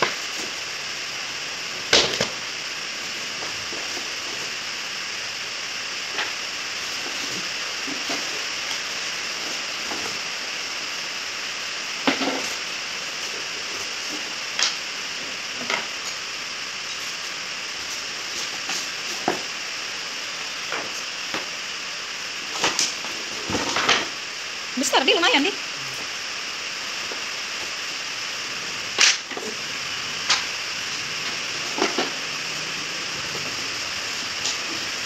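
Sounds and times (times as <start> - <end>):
steady background hiss: 0.0 - 35.0.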